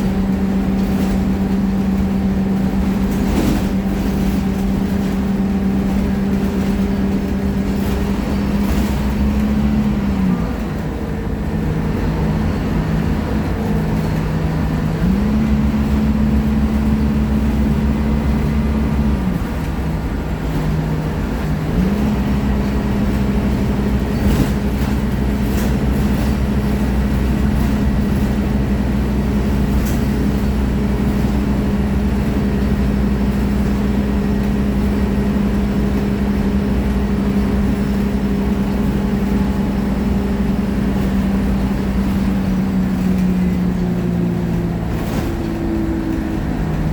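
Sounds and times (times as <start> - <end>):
bus diesel engine: 0.0 - 46.9.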